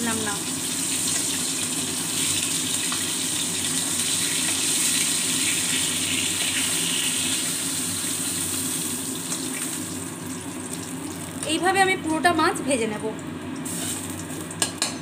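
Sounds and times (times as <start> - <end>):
fish sizzling in oil: 0.0 - 11.6, 13.3 - 14.8.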